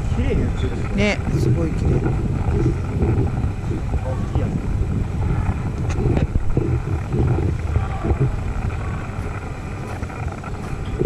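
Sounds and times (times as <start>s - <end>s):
faint voices: 0.0s - 11.0s
street ambience rumble: 0.0s - 11.0s.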